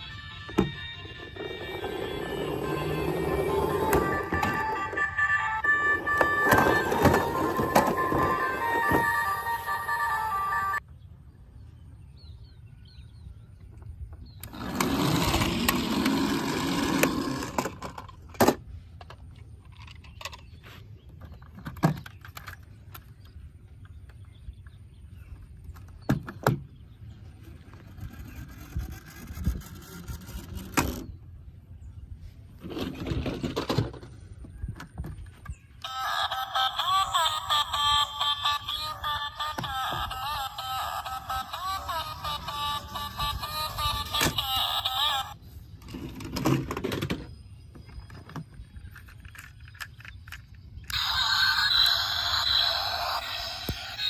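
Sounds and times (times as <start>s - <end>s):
toys scraping and rustling: 0.0s - 10.8s, 14.4s - 24.2s, 27.2s - 31.3s, 32.2s - 54.0s.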